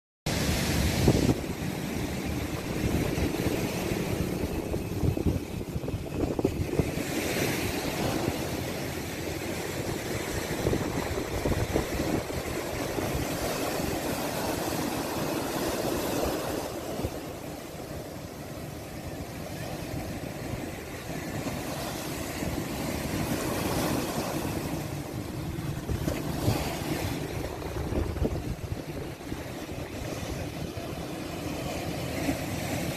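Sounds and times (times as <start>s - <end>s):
sea waves breaking against rocks: 0.3s - 32.9s
wind buffeting microphone: 0.3s - 32.9s.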